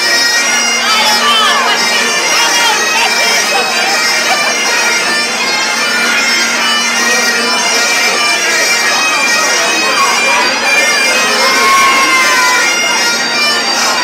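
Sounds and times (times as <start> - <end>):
bagpipes playing: 0.0 - 14.0.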